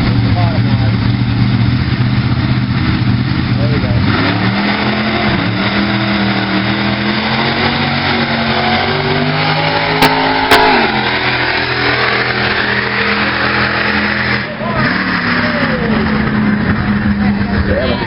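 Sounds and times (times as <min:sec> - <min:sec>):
truck engine at full throttle: 0:00.0 - 0:18.0.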